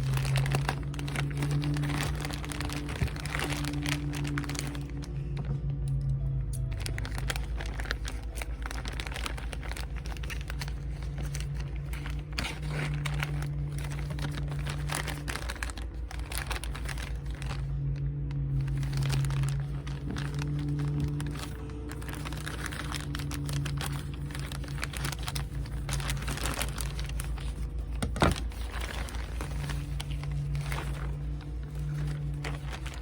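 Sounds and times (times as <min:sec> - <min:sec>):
packaging tearing: 0:00.0 - 0:05.4, 0:06.6 - 0:17.8, 0:18.5 - 0:33.0
packaging crinkling and rustling: 0:00.0 - 0:33.0.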